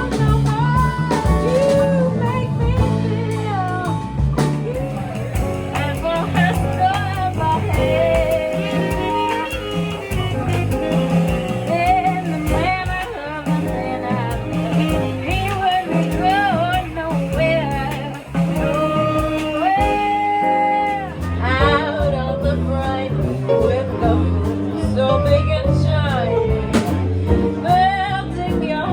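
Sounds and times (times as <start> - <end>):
drums keeping time: 0.0 - 28.9
lead singer singing: 0.0 - 28.9
live band playing: 0.0 - 28.9.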